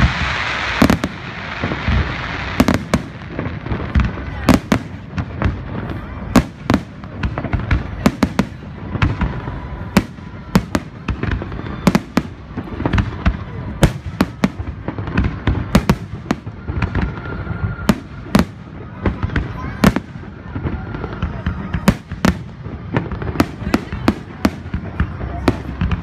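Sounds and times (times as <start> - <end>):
continuous rumble: 0.0 - 26.0
fireworks bangs: 0.0 - 26.0.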